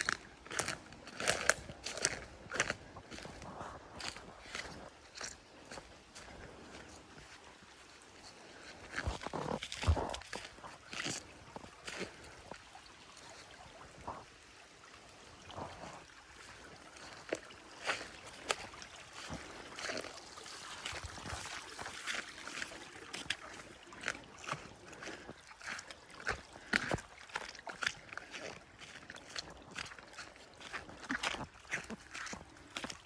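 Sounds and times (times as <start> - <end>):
footsteps crunching on forest floor: 0.0 - 14.3, 15.4 - 33.0.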